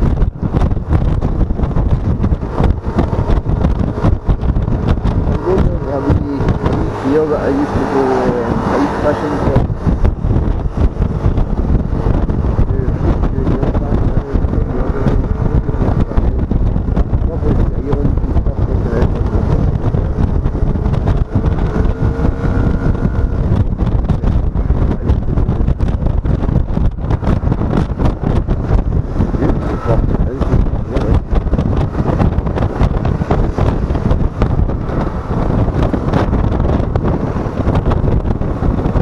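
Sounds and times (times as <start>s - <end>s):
scooter engine droning: 0.0s - 39.0s
wind rushing over microphone: 0.0s - 39.0s.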